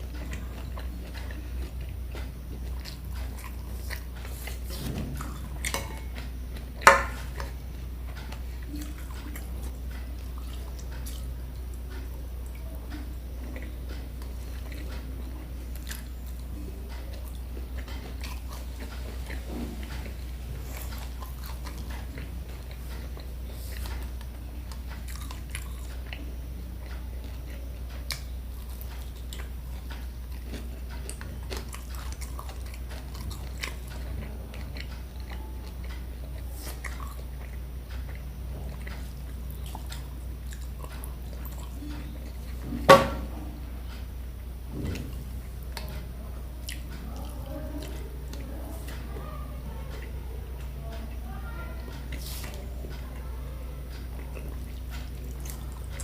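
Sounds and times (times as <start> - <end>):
chewing and crunching: 0.0 - 56.0
steady low hum: 0.0 - 56.0.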